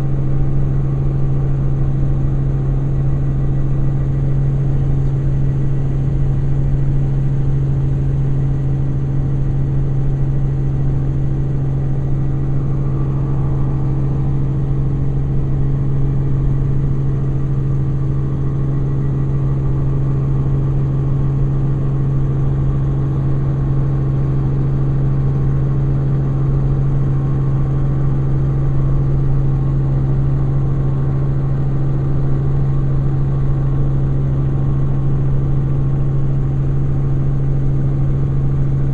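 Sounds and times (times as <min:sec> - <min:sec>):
helicopter cabin drone: 0:00.0 - 0:38.9.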